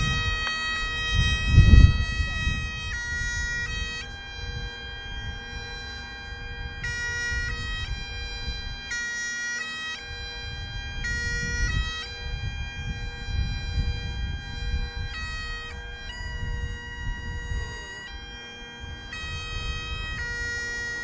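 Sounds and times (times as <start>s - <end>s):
bagpipes playing slow melody: 0.0s - 21.0s.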